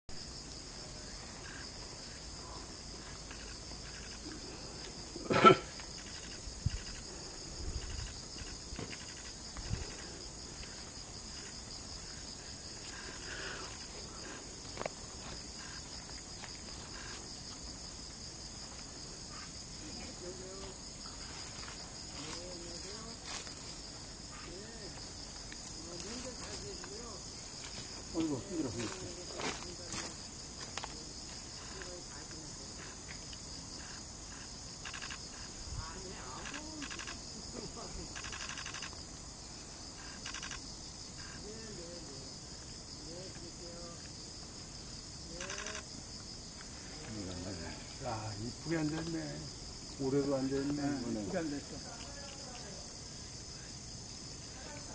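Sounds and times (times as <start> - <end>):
high-pitched insect chorus: 0.1 - 54.9.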